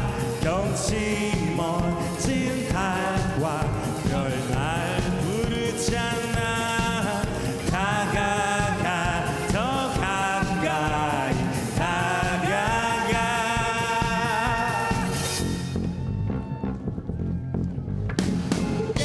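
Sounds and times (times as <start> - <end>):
man singing long notes: 0.0 - 15.2
electric guitar and bass: 0.0 - 19.0.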